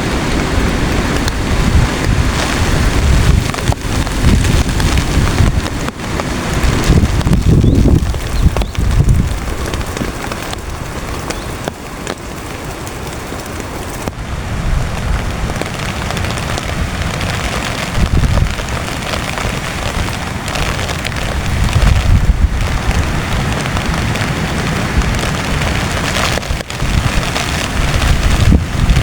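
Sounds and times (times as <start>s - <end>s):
heavy rain drumming on tent: 0.0s - 29.0s
wind gusts on microphone: 0.0s - 29.0s.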